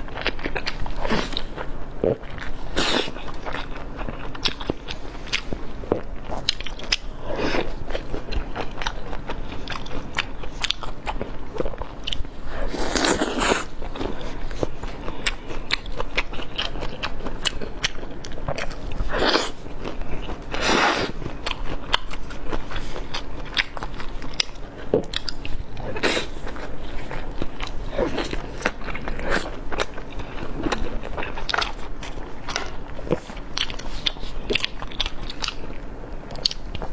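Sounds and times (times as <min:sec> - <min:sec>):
crunchy chewing: 0:00.0 - 0:36.9.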